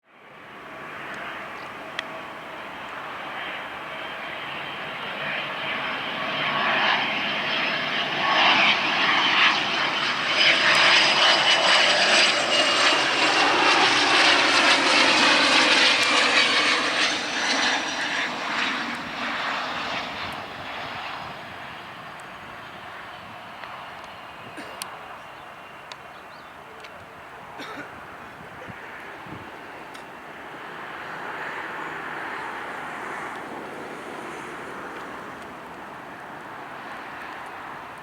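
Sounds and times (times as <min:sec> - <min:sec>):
jet engines roaring: 0:00.2 - 0:38.0
high jet whine: 0:00.3 - 0:38.0.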